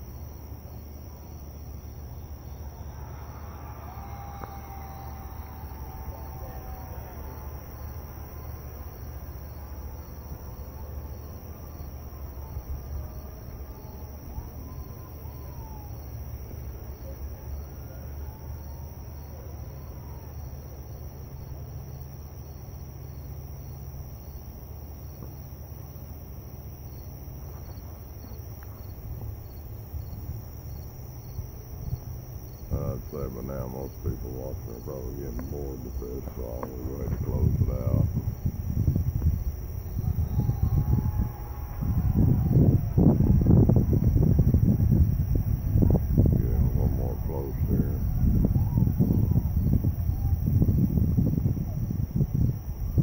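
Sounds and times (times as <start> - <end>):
constant low hum: 0.0 - 53.0
crickets chirping: 0.0 - 53.0.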